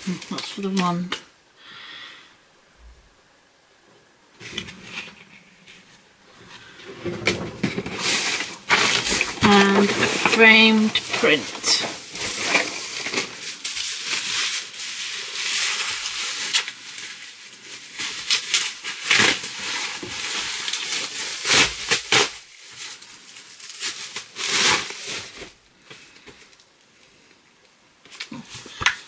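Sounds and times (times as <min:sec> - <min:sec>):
plastic wrapping crinkling: 0:00.0 - 0:01.2, 0:04.4 - 0:29.0.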